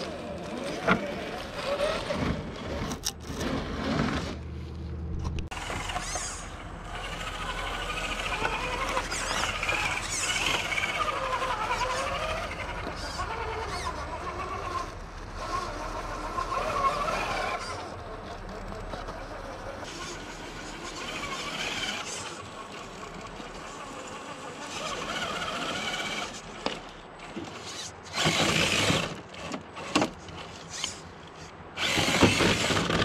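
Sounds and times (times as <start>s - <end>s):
electric motor and gear whine: 0.0s - 4.4s, 5.2s - 33.0s.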